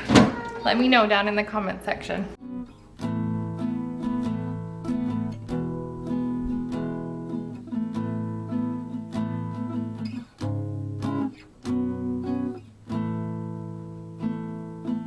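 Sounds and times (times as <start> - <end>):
strummed acoustic guitar: 2.4 - 15.0.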